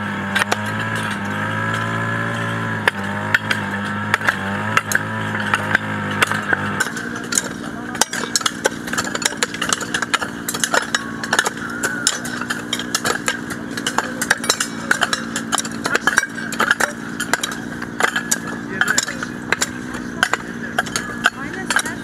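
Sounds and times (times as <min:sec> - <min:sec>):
engine-like drone: 0:00.0 - 0:22.0
hoes chopping stony soil: 0:00.0 - 0:22.0.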